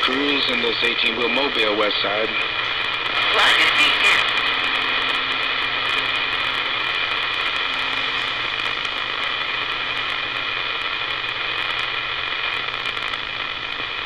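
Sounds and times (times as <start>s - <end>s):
faint steady radio tones: 0.0s - 14.0s
light static crackles: 0.0s - 14.0s
radio static hiss: 0.0s - 14.0s.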